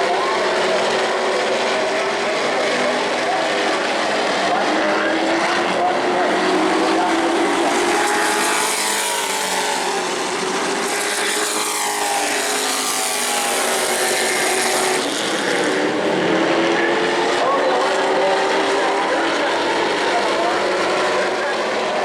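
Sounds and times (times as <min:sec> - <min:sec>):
racing trucks passing: 0:00.0 - 0:22.0.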